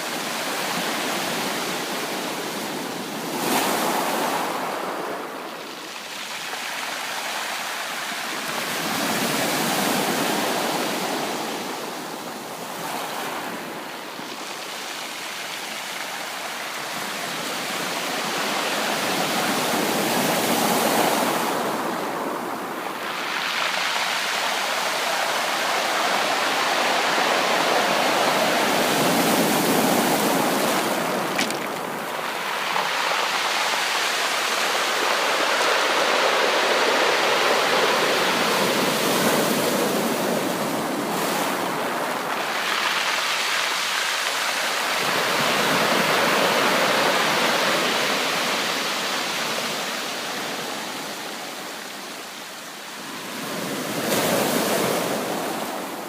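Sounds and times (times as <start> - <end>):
sea surf washing in: 0.0 - 56.0.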